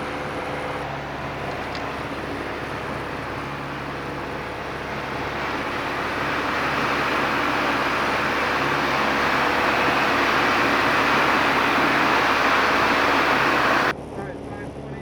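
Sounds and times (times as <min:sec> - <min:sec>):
rushing air noise: 0:00.0 - 0:13.9
airplane engine and propeller drone: 0:00.0 - 0:15.0.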